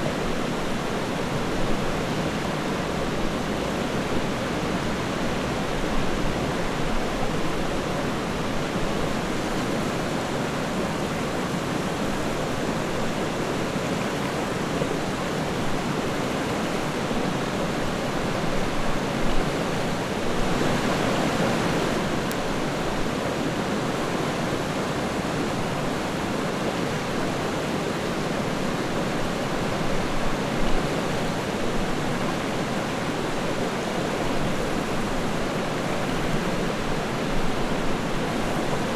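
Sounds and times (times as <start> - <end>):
river water flowing: 0.1 - 38.9.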